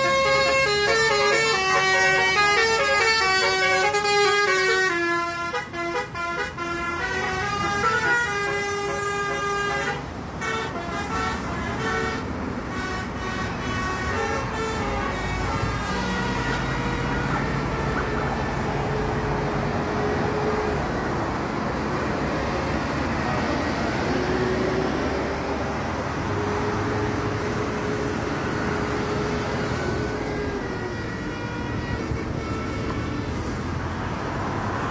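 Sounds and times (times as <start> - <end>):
bus engine: 0.0 - 34.9
road traffic: 0.0 - 34.9.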